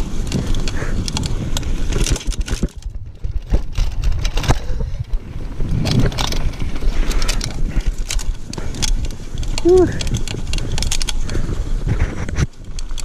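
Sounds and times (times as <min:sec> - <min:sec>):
bike clattering over bumps: 0:00.0 - 0:13.0
bike tyres rumbling on dirt: 0:00.0 - 0:13.0.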